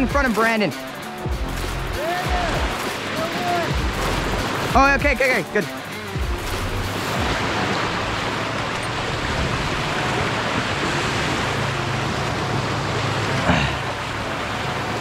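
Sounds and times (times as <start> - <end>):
surf rushing: 0.0 - 15.0.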